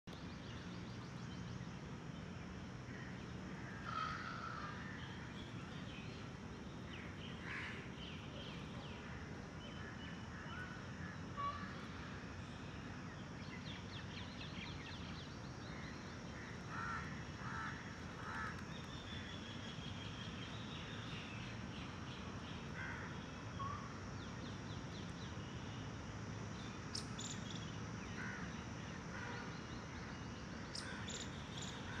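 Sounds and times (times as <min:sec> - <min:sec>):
low background noise: 0:00.1 - 0:32.0.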